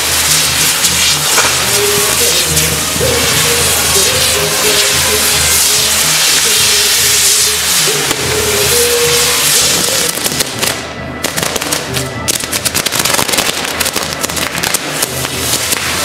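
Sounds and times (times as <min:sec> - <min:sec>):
festival music: 0:00.0 - 0:16.0
fireworks crackling: 0:00.0 - 0:16.0
fireworks hissing: 0:00.0 - 0:16.0.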